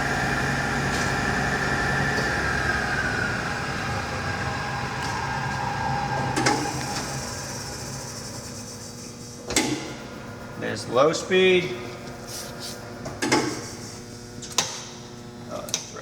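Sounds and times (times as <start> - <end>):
lathe whine: 0.0 - 14.4.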